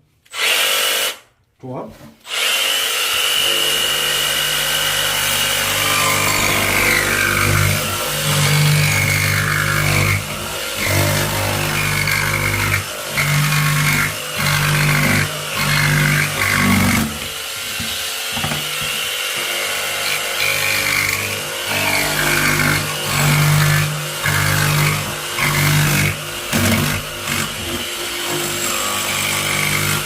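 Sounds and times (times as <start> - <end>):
power tool motor whining: 2.3 - 30.0.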